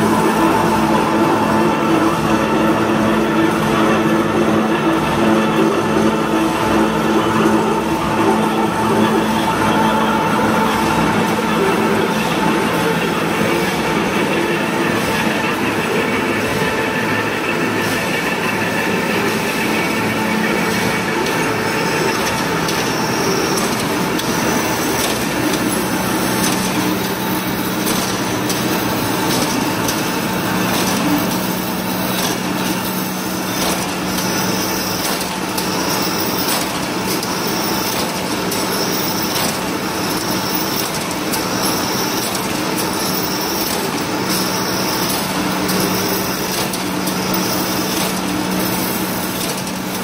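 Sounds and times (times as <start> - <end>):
wire machine clatter and hum: 0.0 - 50.0.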